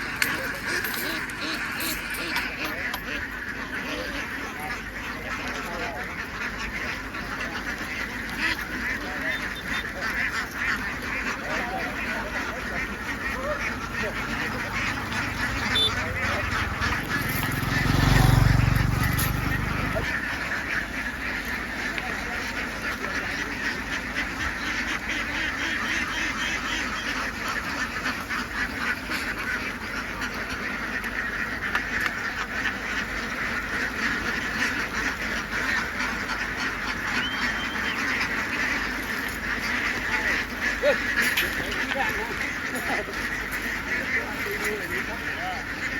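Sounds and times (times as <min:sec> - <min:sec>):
ducks quacking: 0:00.0 - 0:45.9.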